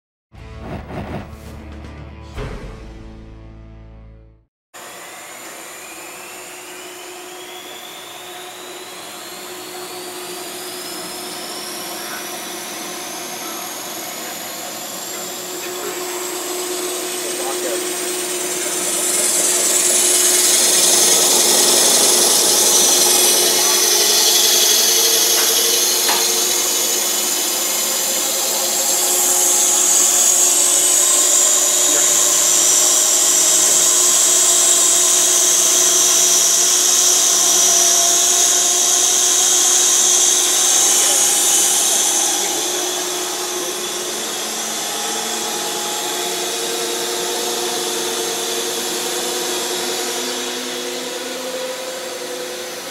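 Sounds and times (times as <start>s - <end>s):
electric motor humming: 4.8s - 52.9s.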